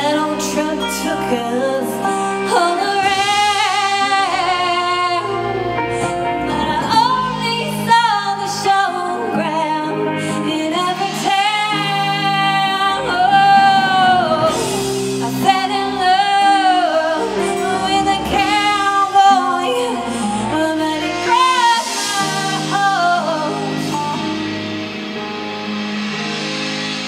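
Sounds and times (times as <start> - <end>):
singer holding notes with vibrato: 0.0 - 25.0
instrumental accompaniment: 0.0 - 27.0.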